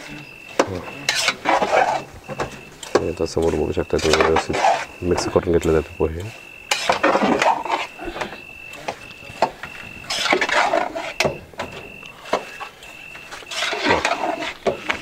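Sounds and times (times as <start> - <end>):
faint pulsing high tone: 0.0 - 14.3
metal spoon scraping pot: 0.0 - 15.0.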